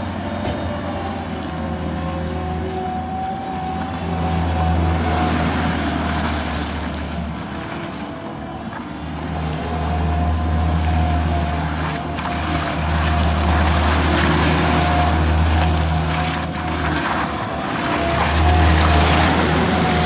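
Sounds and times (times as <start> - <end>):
skid steer engine whining: 0.0 - 20.0.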